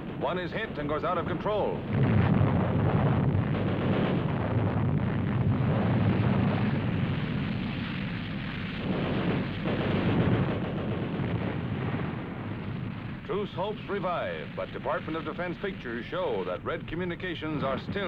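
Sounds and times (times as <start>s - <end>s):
explosions rumbling: 0.0s - 18.0s.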